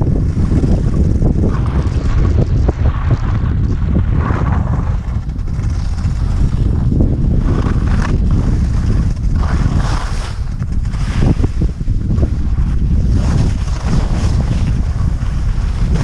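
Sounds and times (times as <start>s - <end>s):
skis scraping over snow: 0.0s - 16.0s
wind rumbling on microphone: 0.0s - 16.0s.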